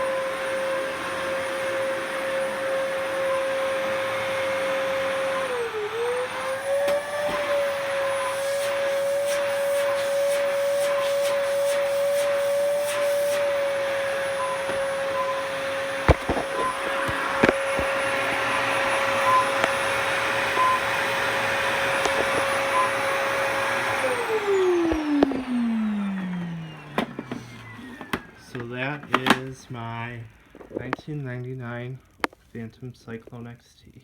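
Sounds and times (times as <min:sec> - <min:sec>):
vacuum cleaner whining: 0:00.0 - 0:32.5.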